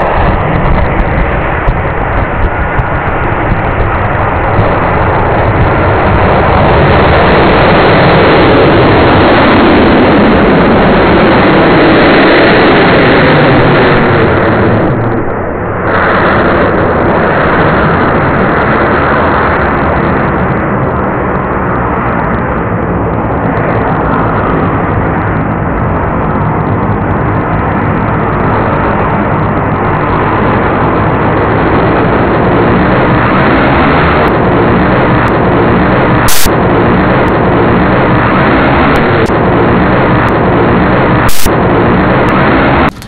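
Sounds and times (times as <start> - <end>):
rocket motor roaring: 0.0 - 43.0.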